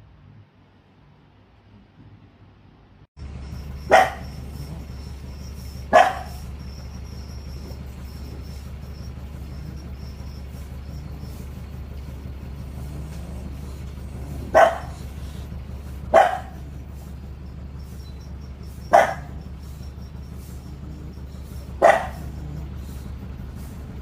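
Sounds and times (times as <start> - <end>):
steady low hum: 0.0 - 24.0
dog snoring with bark-like sounds: 3.4 - 24.0.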